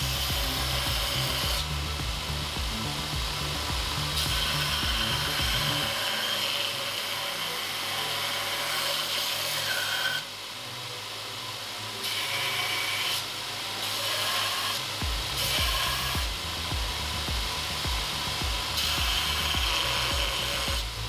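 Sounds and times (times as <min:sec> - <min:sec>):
belt grinder grinding metal: 0:00.0 - 0:10.4, 0:11.9 - 0:21.0.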